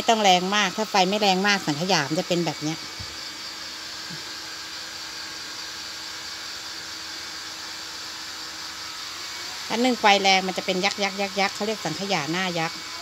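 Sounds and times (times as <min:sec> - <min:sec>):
steamer hissing: 0:00.0 - 0:13.0.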